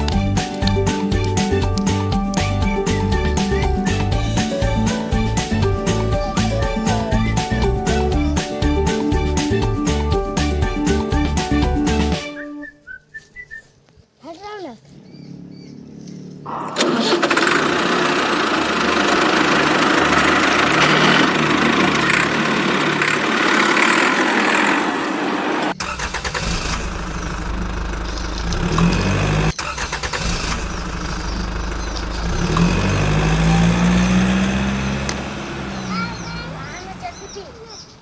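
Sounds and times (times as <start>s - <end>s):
motor vehicle engine running: 0.0s - 12.2s, 14.8s - 38.0s.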